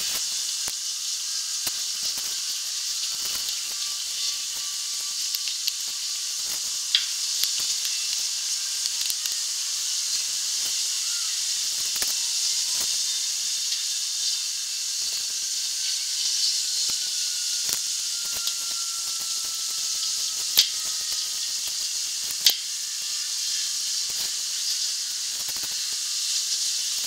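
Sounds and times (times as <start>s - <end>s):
steady high hiss: 0.0s - 27.0s.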